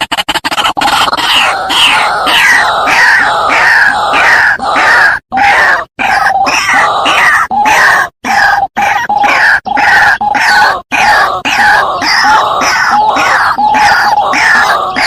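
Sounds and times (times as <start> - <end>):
waterhen calling harsh notes: 0.4 - 15.0.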